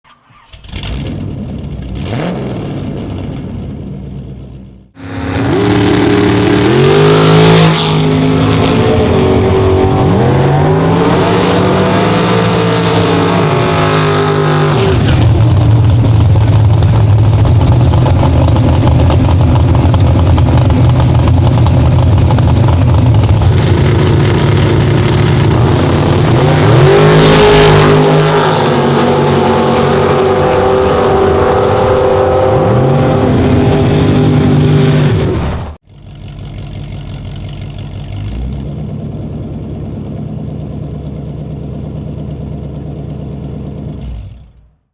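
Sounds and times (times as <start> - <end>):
drag car engine revving: 0.1 - 44.8.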